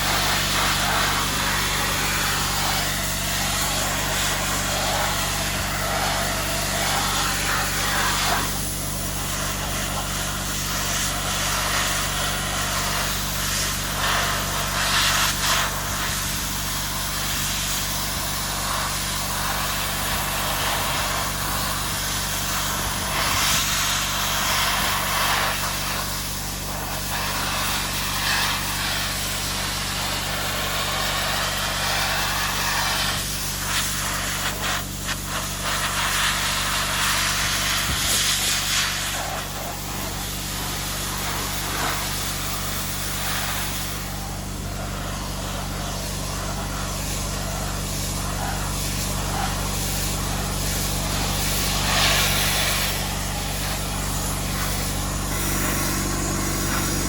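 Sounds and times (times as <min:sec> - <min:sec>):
sandblaster nozzle hissing: 0:00.0 - 0:57.0
steady low hum: 0:00.0 - 0:57.0.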